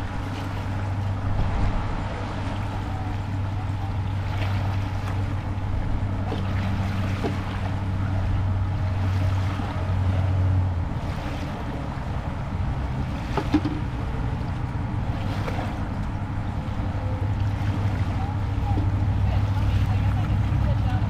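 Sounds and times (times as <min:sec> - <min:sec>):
surf washing: 0:00.0 - 0:21.0
wind buffeting microphone: 0:00.0 - 0:21.0.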